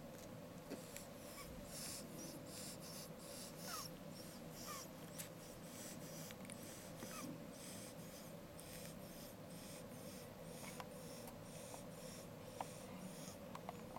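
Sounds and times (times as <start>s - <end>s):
steady low hum: 0.0s - 13.9s
baby breathing softly: 0.7s - 13.9s.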